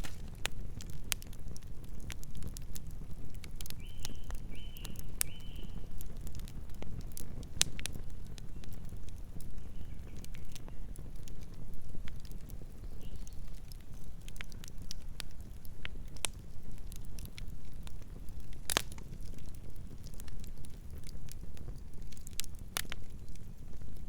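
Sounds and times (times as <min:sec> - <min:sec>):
burning wood crackling and popping: 0:00.0 - 0:24.0
campfire rumble: 0:00.0 - 0:24.0.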